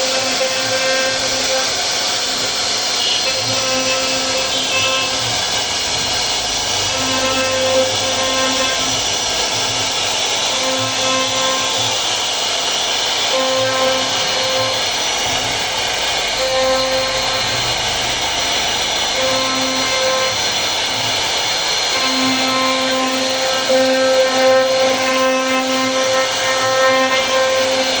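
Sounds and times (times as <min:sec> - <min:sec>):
low machine hum: 0:00.0 - 0:28.0
router spindle cutting wood: 0:00.0 - 0:28.0.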